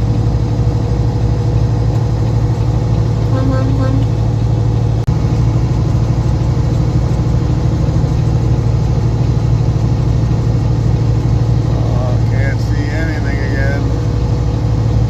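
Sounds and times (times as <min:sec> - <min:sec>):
truck engine drone from cab: 0:00.0 - 0:15.0.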